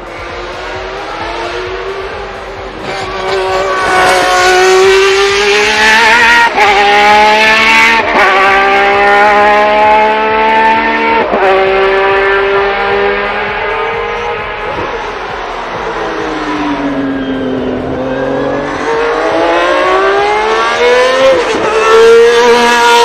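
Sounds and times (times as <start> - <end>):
racing car engine at full throttle: 0.0 - 23.0.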